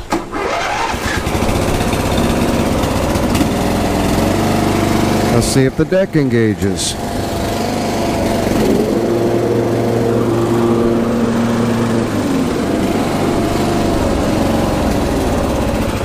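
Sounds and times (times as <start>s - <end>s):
riding lawn mower engine running: 0.0s - 16.0s.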